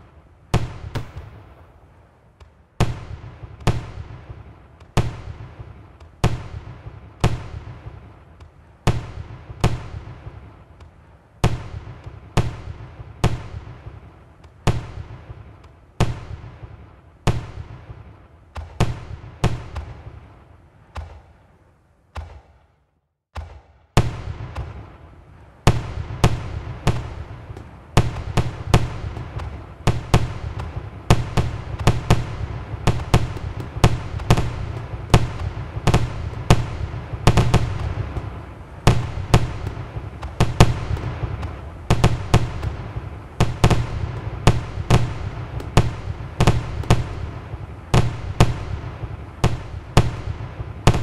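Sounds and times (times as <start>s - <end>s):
firework shells bursting: 0.6s - 16.5s, 23.6s - 51.0s.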